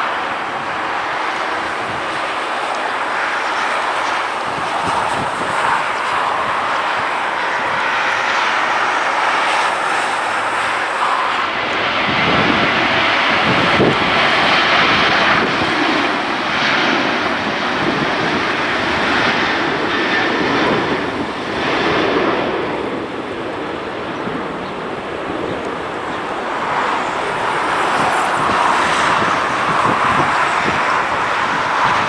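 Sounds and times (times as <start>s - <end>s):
jet engines rushing: 0.0s - 32.0s.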